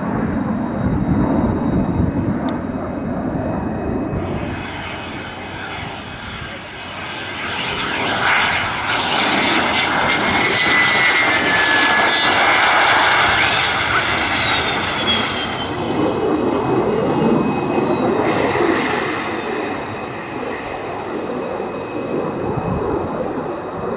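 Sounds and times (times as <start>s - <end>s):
jet roar: 0.0s - 23.9s
jet turbine whine: 0.0s - 23.9s.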